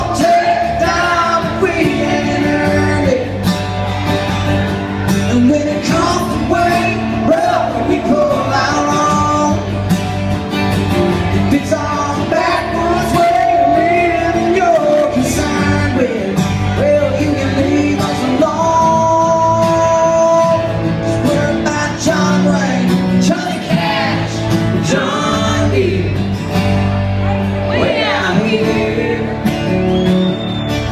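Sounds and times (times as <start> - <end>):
country band playing: 0.0 - 30.9.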